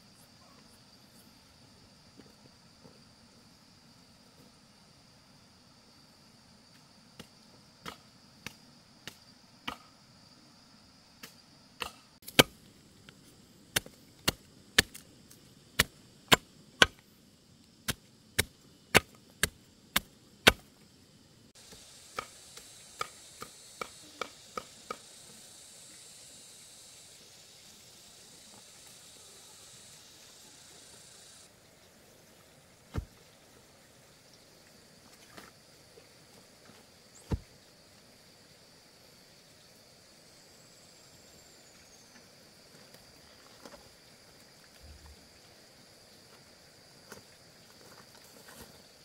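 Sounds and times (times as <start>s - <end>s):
steady high hiss: 0.0s - 49.0s.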